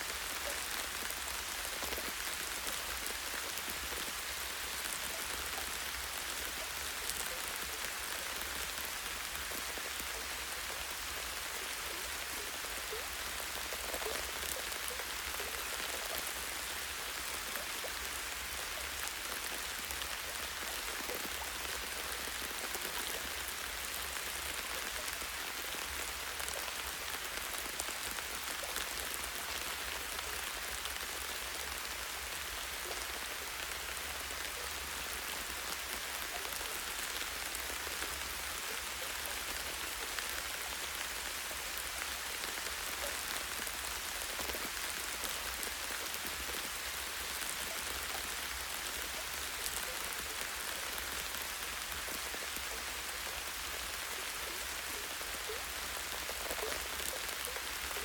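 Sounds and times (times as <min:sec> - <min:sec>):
light rain on leaves: 0:00.0 - 0:58.0.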